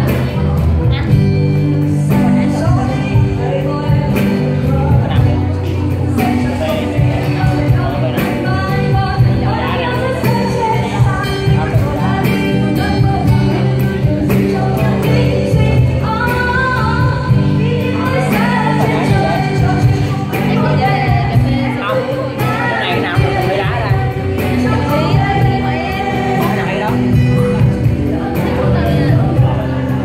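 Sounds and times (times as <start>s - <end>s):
instrumental accompaniment: 0.0s - 30.0s
person singing: 0.0s - 30.0s.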